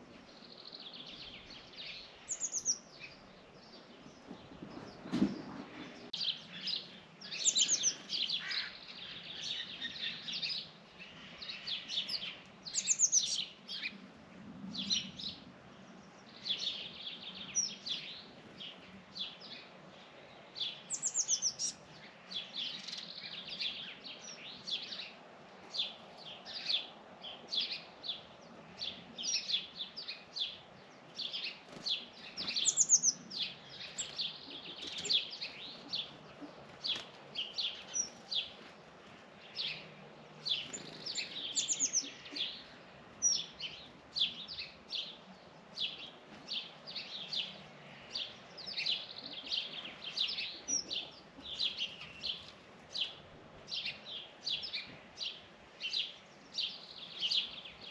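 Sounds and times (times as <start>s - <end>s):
birds chirping: 0.0s - 14.0s, 14.7s - 57.9s.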